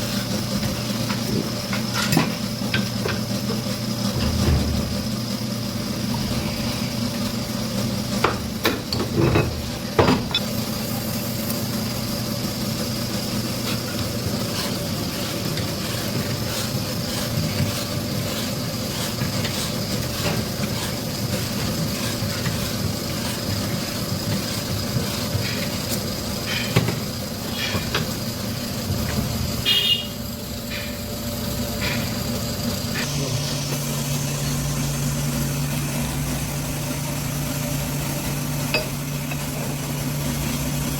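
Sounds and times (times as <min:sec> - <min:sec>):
boring machine motor hum: 0:02.4 - 0:40.9.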